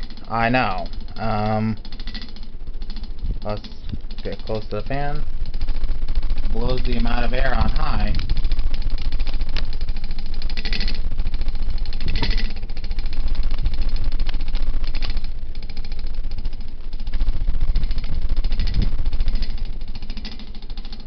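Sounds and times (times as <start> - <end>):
ceiling fan pulsing: 0.0 - 21.0
low rumble of moving air: 0.0 - 21.0.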